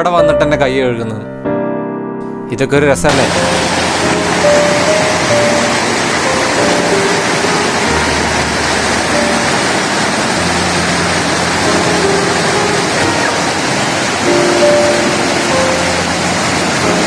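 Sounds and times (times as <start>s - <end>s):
music of held notes: 2.5s - 17.0s
small waterfall rushing: 3.1s - 17.0s.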